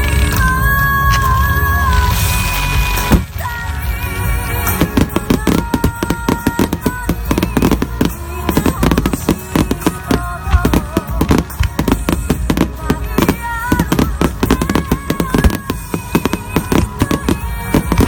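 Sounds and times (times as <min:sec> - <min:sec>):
fireworks bursting: 0:00.0 - 0:18.0
song with singing: 0:00.0 - 0:18.0.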